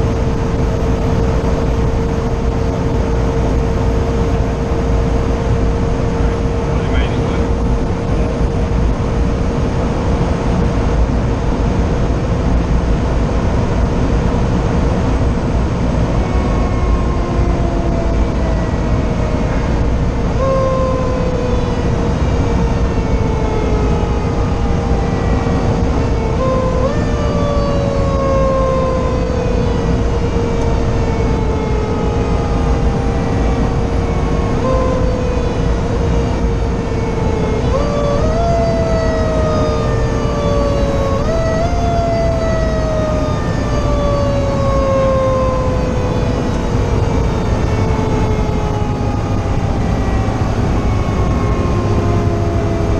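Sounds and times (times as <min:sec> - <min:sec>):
mechanical siren winding down: 0:00.0 - 0:09.8, 0:13.8 - 0:52.9
constant whine: 0:00.0 - 0:52.9
diesel engine and road noise: 0:00.0 - 0:52.9.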